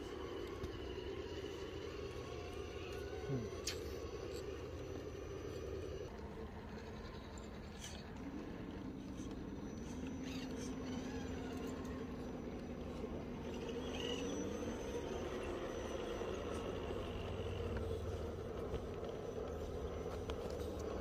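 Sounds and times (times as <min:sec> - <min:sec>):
electric motor and gearbox whining: 0:00.0 - 0:21.0.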